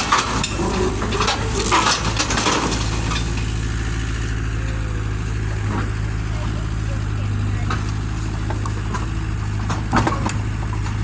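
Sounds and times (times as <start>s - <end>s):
engine idling: 0.0s - 11.0s
metallic clanking and rattling: 0.0s - 11.0s.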